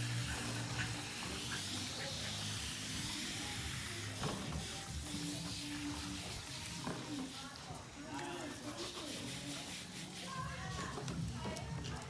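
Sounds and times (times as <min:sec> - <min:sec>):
hose nozzle spraying water: 0:00.0 - 0:10.8.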